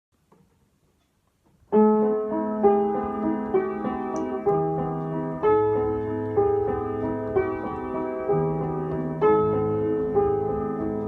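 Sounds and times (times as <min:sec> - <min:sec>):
keyboard piano melody: 0:01.6 - 0:11.0.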